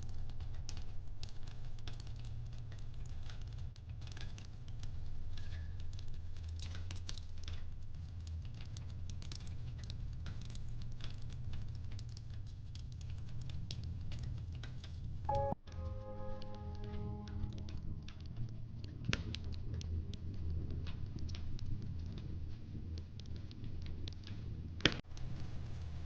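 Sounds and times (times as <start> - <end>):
wood fire crackling: 0.0 - 15.3, 17.6 - 26.0.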